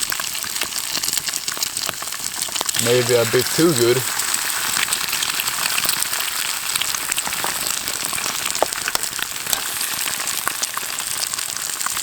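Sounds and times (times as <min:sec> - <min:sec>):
bacon sizzling in a pan: 0:00.0 - 0:12.0
campfire crackling: 0:00.1 - 0:12.0.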